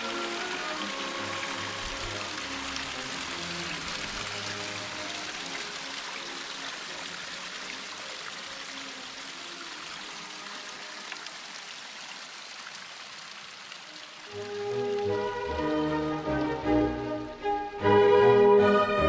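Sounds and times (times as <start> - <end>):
brook running over stones: 0.0 - 17.3.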